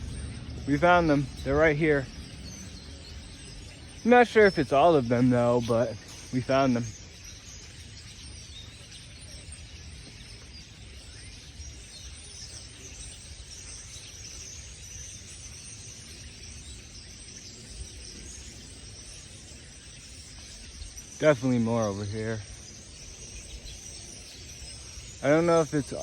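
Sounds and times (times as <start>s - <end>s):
flock of birds chirping: 0.0s - 26.0s
wind rumble on microphone: 0.0s - 26.0s.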